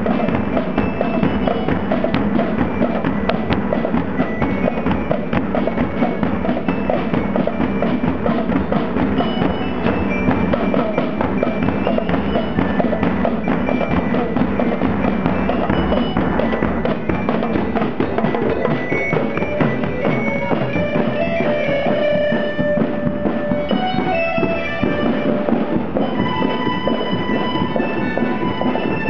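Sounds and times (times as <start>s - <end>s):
glockenspiels and melodicas: 0.0s - 29.0s
marching band playing: 0.0s - 29.0s.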